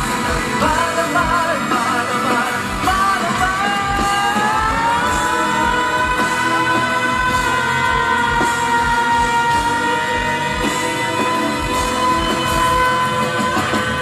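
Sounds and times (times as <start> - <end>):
drum beat: 0.0 - 14.0
rock band long held note: 0.0 - 14.0.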